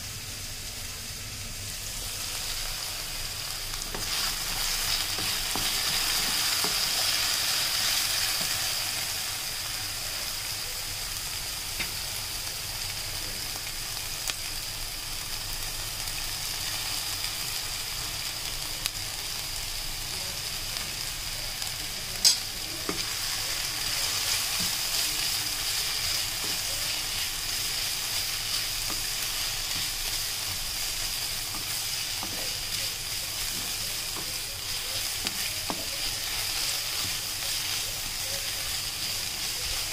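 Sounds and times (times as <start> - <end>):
vegetables sizzling in oil: 0.0 - 39.9.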